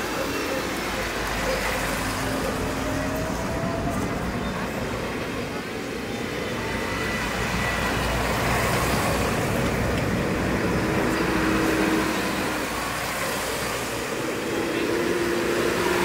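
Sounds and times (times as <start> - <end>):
tractor diesel engine: 0.0 - 16.0.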